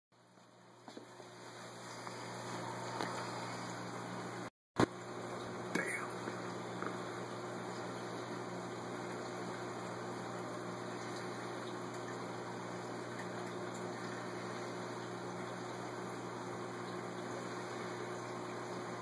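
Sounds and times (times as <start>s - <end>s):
low electrical hum: 0.2s - 19.0s
water circulating: 0.9s - 19.0s.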